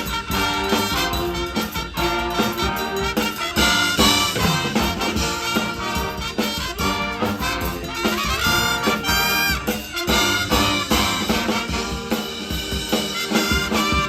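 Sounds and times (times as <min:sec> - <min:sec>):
brass horns playing melody: 0:00.0 - 0:14.0
drums: 0:00.0 - 0:14.0.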